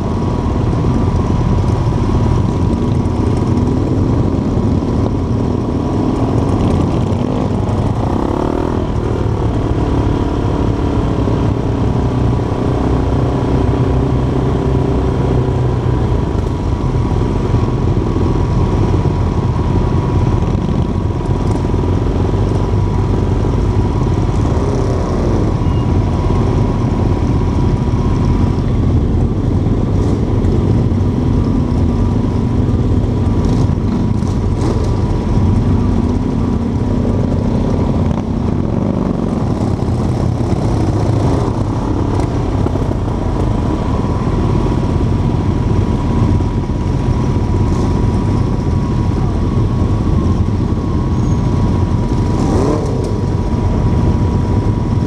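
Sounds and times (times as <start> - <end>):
motorcycle engines droning: 0.0 - 55.0.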